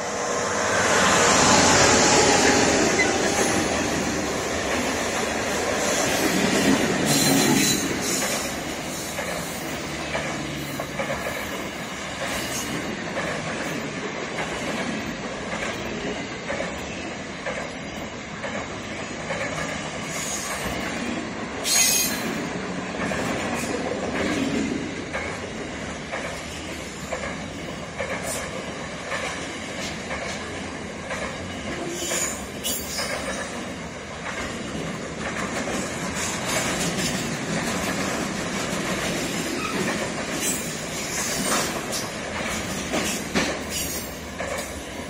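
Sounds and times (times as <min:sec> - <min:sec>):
freight train passing: 0:00.0 - 0:45.0
wheels clattering on rail: 0:00.6 - 0:45.0.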